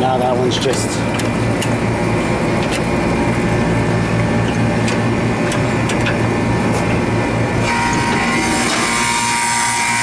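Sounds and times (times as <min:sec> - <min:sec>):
condenser fan rushing: 0:00.0 - 0:10.0
mechanical hum: 0:00.0 - 0:10.0.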